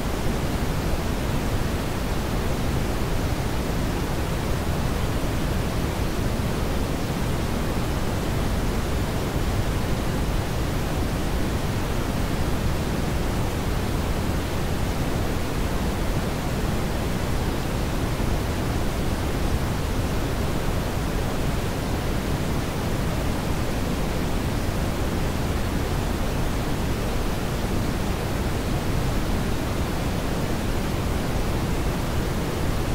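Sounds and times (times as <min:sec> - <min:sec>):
brown noise hiss: 0:00.0 - 0:32.9.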